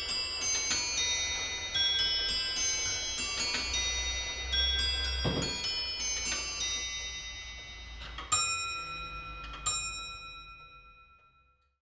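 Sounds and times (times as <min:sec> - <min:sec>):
clock striking: 0:00.0 - 0:10.8.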